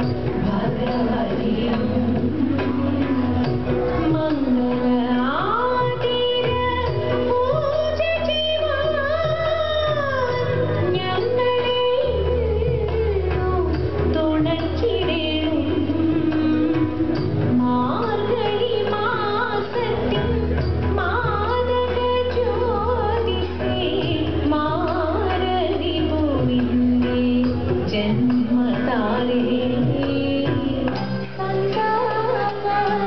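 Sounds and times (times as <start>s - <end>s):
instrumental accompaniment: 0.0s - 33.0s
woman singing: 0.0s - 33.0s.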